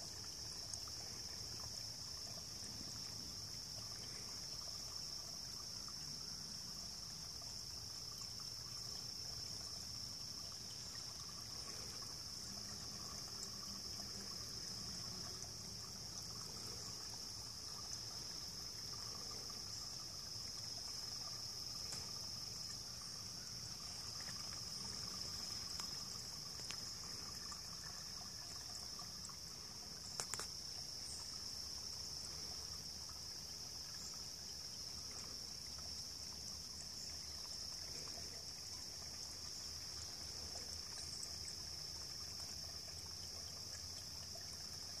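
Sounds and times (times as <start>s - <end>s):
water trickling over rocks: 0.0s - 45.0s.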